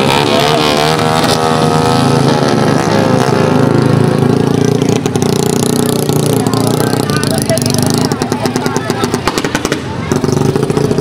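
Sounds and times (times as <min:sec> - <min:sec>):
motorcycle engines idling: 0:01.6 - 0:11.0.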